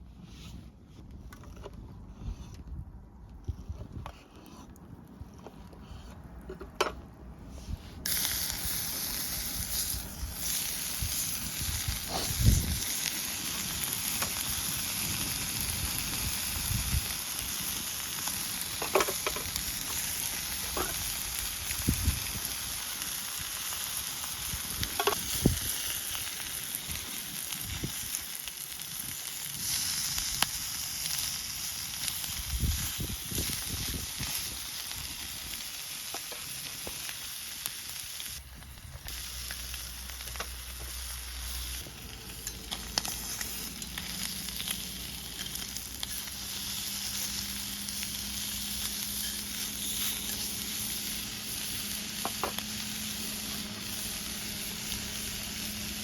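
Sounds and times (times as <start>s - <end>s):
food sizzling in a skillet: 8.1s - 56.0s.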